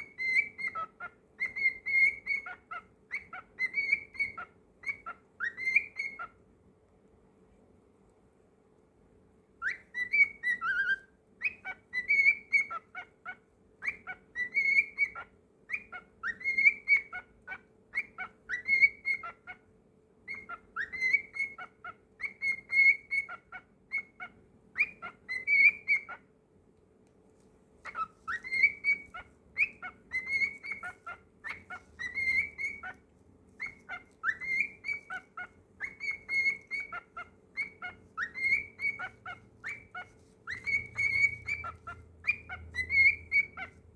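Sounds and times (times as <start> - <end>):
cockatiel whistling: 0.0 - 6.4, 9.6 - 19.6, 20.3 - 26.2, 27.8 - 43.9.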